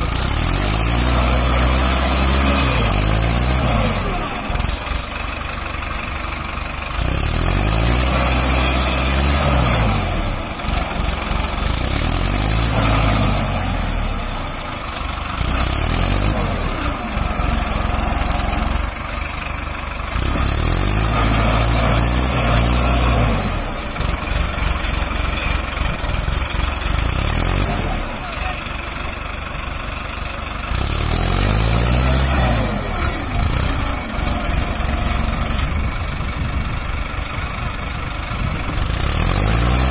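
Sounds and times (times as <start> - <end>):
tractor diesel engine revving: 0.0 - 39.9
tyres churning through mud: 0.0 - 39.9.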